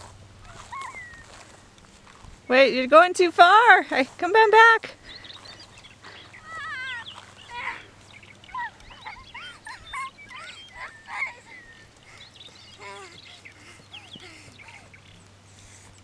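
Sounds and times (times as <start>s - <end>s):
birds chirping and trilling: 0.4s - 2.8s, 4.8s - 16.0s.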